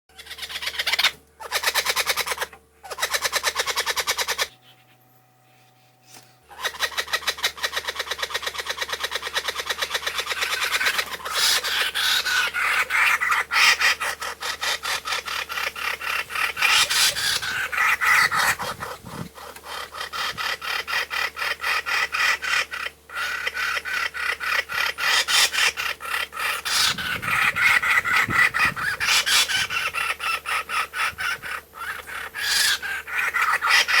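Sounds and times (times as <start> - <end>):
kookaburra calling: 0.1 - 5.0, 6.4 - 34.0.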